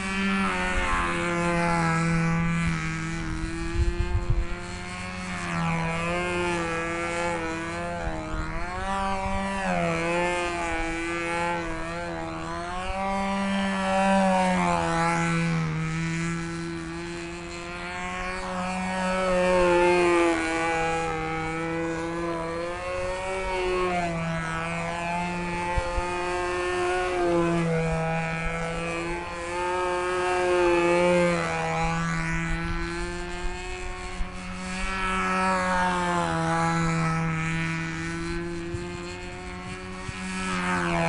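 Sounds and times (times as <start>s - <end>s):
model plane engine buzzing: 0.0s - 41.0s.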